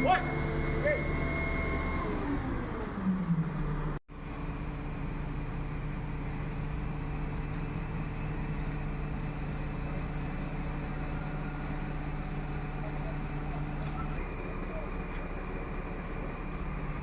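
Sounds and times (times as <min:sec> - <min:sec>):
concrete pump truck engine droning: 0:00.0 - 0:17.0.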